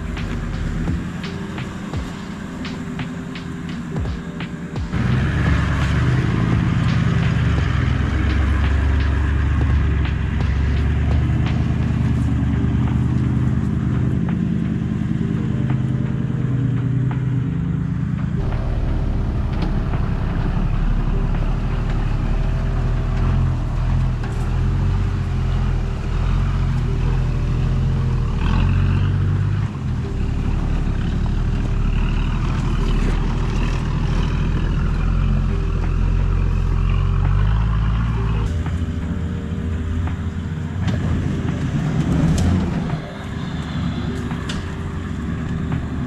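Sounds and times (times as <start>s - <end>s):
engine running under load: 0.0s - 46.0s.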